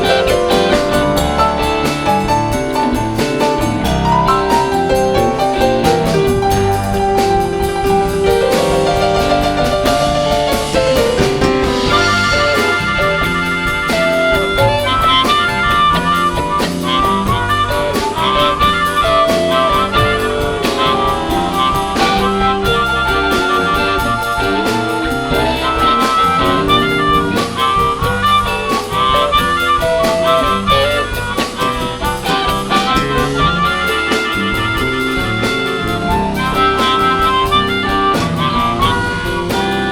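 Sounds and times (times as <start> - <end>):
live band playing instrumental: 0.0 - 39.9.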